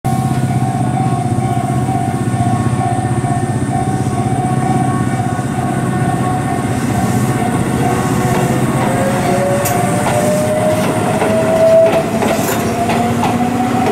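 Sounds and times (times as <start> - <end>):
electric train passing: 0.1 - 13.9
level crossing alarm ringing: 0.2 - 13.9.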